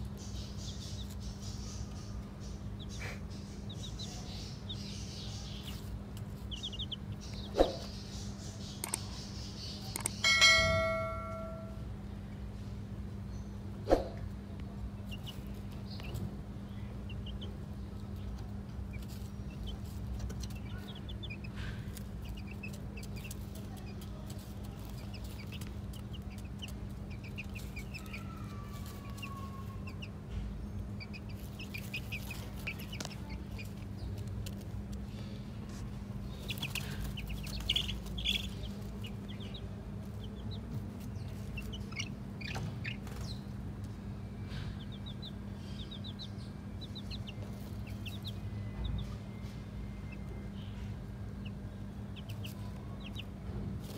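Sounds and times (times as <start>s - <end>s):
chicks peeping: 0.0s - 53.9s
steady low hum: 0.0s - 53.9s.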